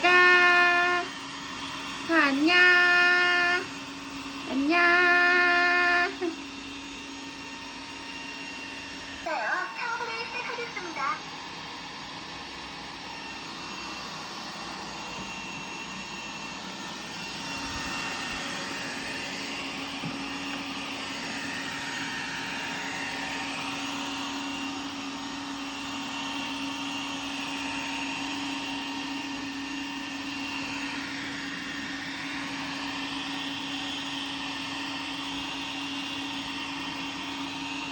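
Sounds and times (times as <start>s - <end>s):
robot vacuum whirring: 0.0s - 37.9s.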